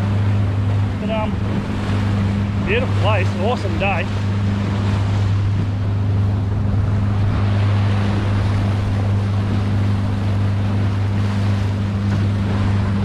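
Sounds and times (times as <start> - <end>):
boat motor humming: 0.0 - 13.0
water washing: 0.0 - 13.0
wind on microphone: 0.0 - 13.0.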